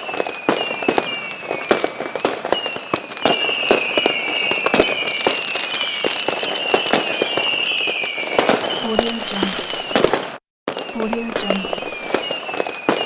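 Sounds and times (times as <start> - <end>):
firework cracks and bangs: 0.0 - 13.0
firework rockets whistling: 0.0 - 13.0.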